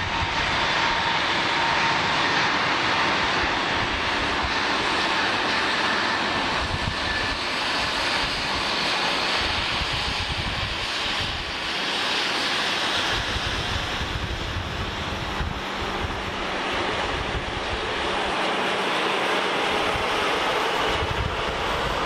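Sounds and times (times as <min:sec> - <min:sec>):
jet engines roaring: 0:00.0 - 0:22.0
wind buffeting microphone: 0:00.0 - 0:22.0.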